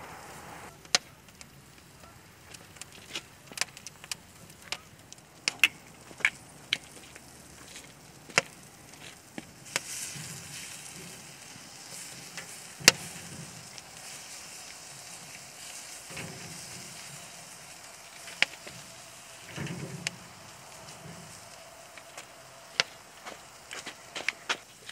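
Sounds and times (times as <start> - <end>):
meat sizzling on a grill: 0.0 - 24.9
fire pops and clicks: 0.1 - 24.9.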